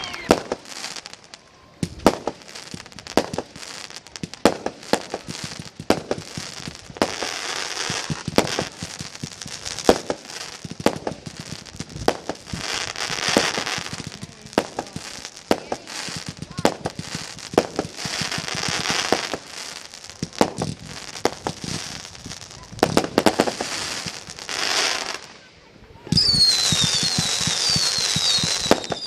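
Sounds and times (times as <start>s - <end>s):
fireworks crackling and sizzling: 0.0s - 29.0s.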